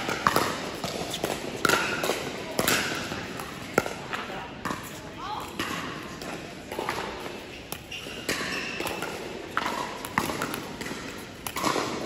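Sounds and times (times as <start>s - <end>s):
ball bouncing on hard court: 0.0s - 12.0s.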